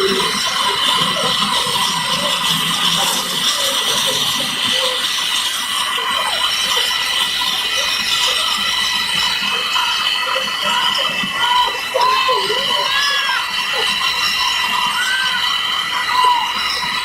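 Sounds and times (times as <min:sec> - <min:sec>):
helicopter engines whining: 0:00.0 - 0:17.0.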